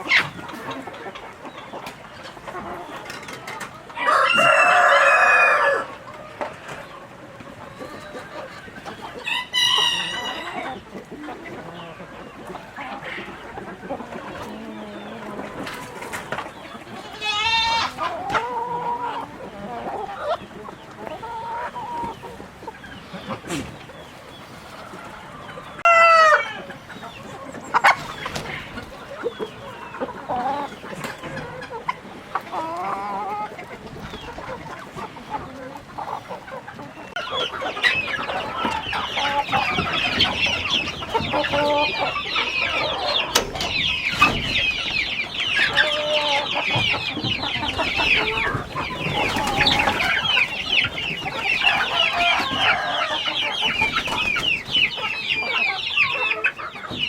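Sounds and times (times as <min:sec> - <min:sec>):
chickens clucking: 0:00.0 - 0:57.0
many birds chirping: 0:00.0 - 0:57.0.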